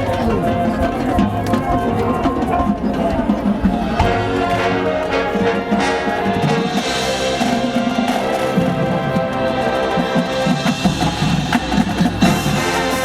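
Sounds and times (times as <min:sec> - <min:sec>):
brass sustained chords: 0:00.0 - 0:13.0
marching band playing: 0:00.0 - 0:13.0.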